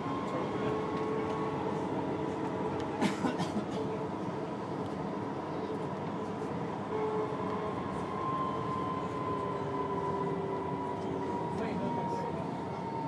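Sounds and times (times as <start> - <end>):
tram rolling on rails: 0.0 - 13.0.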